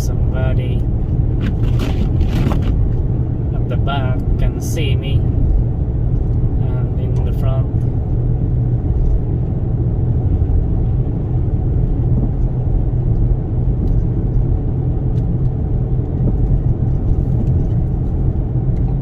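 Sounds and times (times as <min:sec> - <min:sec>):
wind noise: 0:00.0 - 0:04.5, 0:07.8 - 0:19.0
car engine: 0:00.0 - 0:19.0
road noise inside car: 0:00.0 - 0:19.0.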